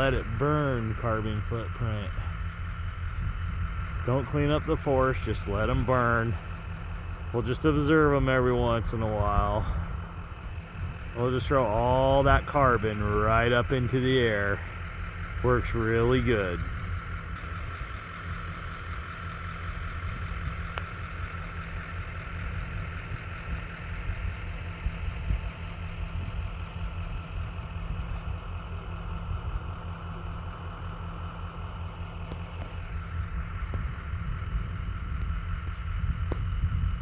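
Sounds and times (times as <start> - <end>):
vehicle engine idling: 0.0 - 37.0.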